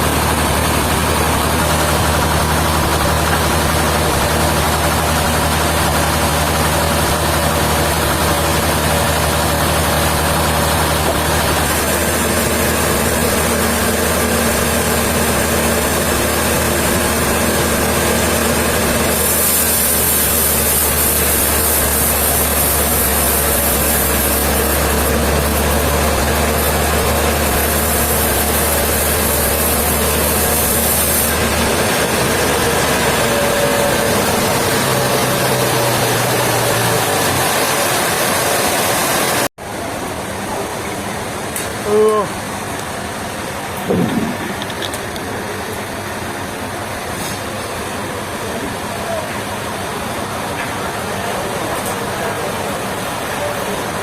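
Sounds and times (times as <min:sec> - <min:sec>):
heavy engine idling: 0:00.0 - 0:54.0.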